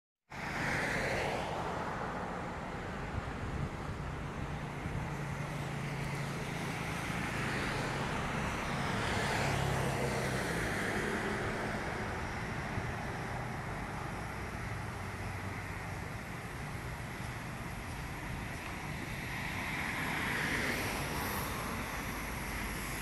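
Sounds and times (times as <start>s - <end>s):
vehicle noise with low hum: 0.3s - 23.0s.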